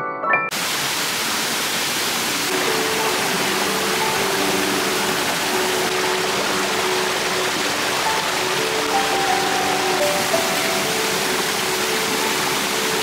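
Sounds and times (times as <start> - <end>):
waterfall rushing over rocks: 0.5 - 13.0.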